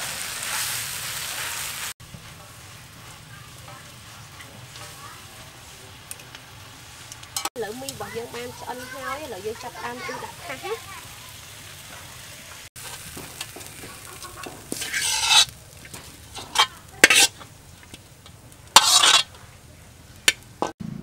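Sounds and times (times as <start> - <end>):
low frying sizzle: 0.0 - 20.8
spatula scraping metal wok: 0.1 - 10.8, 11.4 - 17.9, 18.7 - 19.4.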